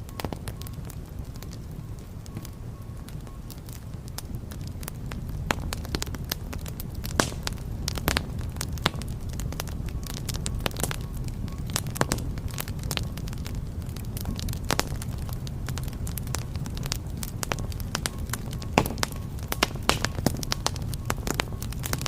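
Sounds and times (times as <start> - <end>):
fire flames rumbling: 0.0 - 22.0
wood fire crackling and popping: 0.0 - 22.0.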